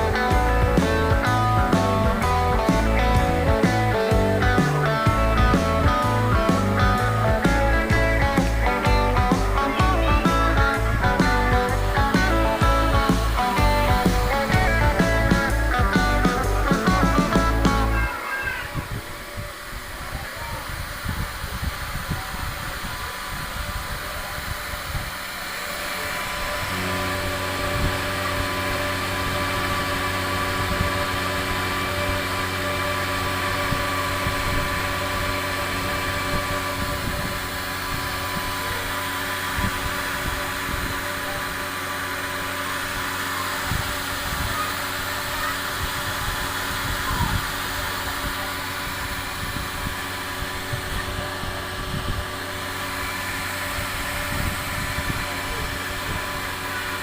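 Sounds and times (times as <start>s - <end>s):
fan whirring: 0.0s - 57.0s
motor humming: 0.0s - 57.0s.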